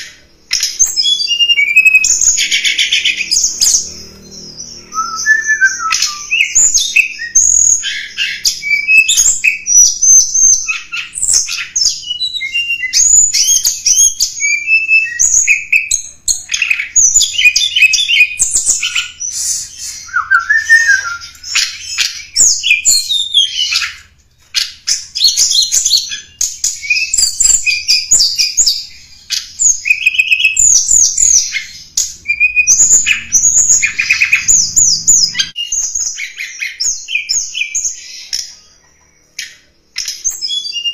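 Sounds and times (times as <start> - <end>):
songbird twittering chirps and trills: 0.0 - 40.9.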